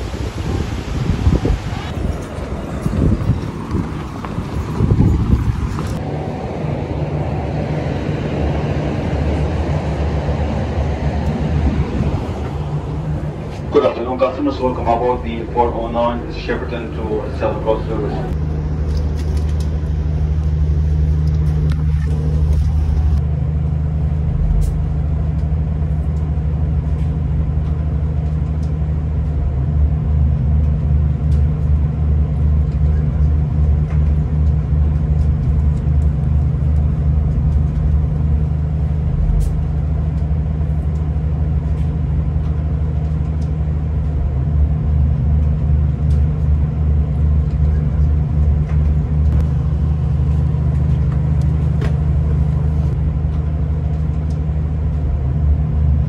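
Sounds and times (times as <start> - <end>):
diesel train engine rumble: 0.0 - 56.0.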